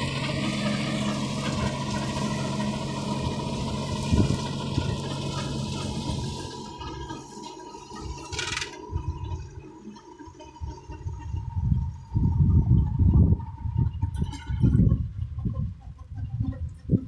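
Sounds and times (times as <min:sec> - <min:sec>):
rotary mower cutting grass: 0:00.0 - 0:17.0
tractor diesel engine running: 0:00.0 - 0:17.0.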